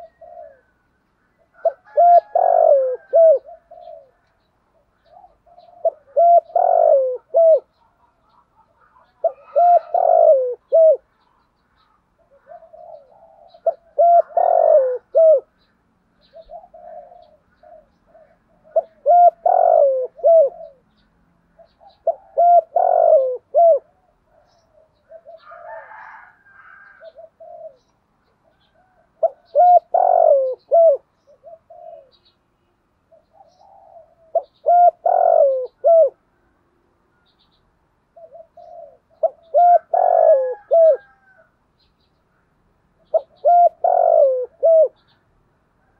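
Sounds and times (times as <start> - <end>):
dove cooing: 0.0 - 21.0, 21.6 - 32.4, 33.0 - 36.3, 38.1 - 41.6, 43.0 - 45.9.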